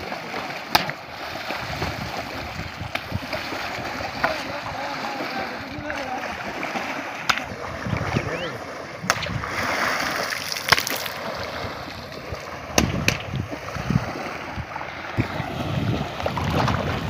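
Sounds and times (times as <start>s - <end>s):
poles beating water: 0.0s - 17.0s
water splashing and sloshing: 0.0s - 17.0s.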